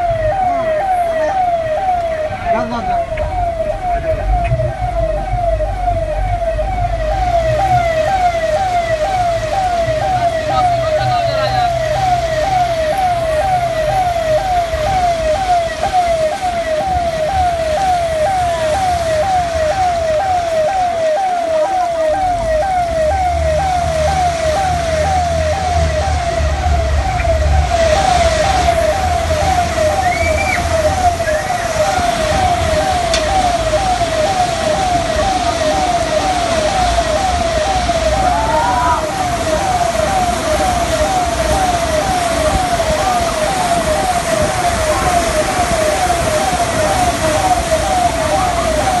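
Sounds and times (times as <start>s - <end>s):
emergency siren yelping: 0.0s - 49.0s
steady wash of noise: 1.5s - 49.0s.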